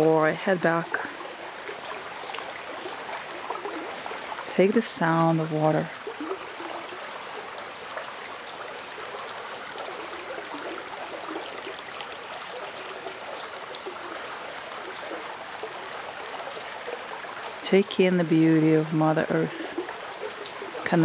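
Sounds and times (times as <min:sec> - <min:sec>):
creek flowing over pebbles: 0:00.0 - 0:21.0.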